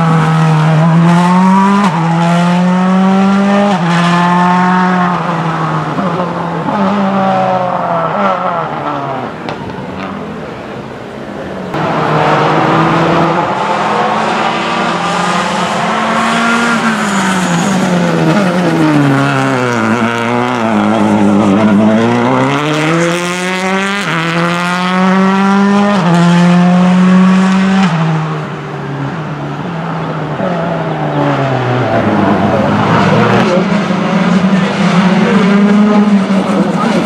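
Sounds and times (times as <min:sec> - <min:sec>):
rally car engine revving: 0:00.0 - 0:10.3, 0:11.5 - 0:37.0.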